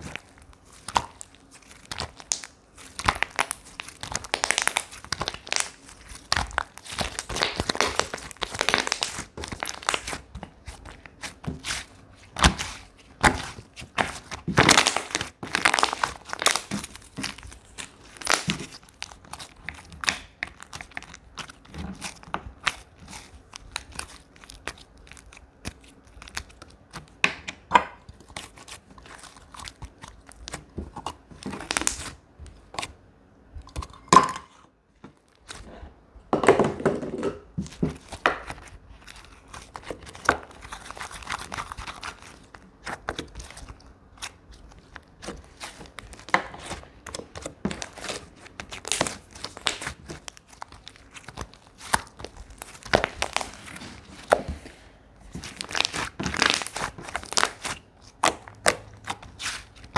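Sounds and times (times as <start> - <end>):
slime squeezed by hand crackling: 0.0 - 27.1, 31.4 - 32.2, 38.0 - 59.9.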